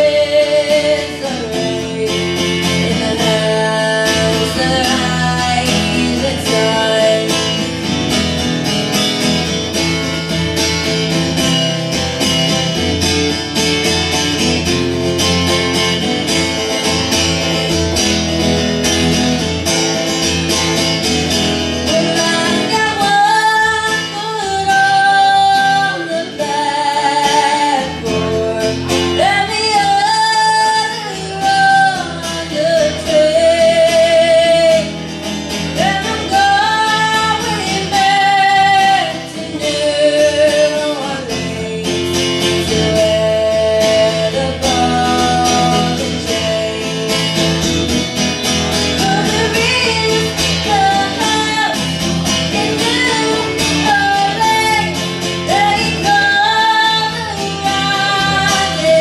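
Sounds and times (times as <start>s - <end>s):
woman singing: 0.0s - 9.6s, 21.0s - 59.0s
acoustic guitar strumming: 0.0s - 59.0s.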